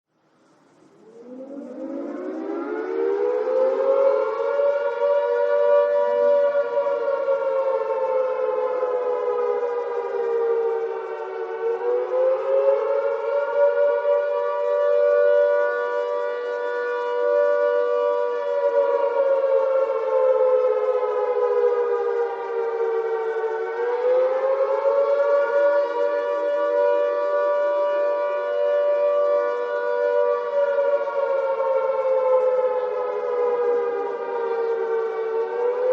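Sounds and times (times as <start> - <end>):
air raid siren wailing: 0.3 - 35.9.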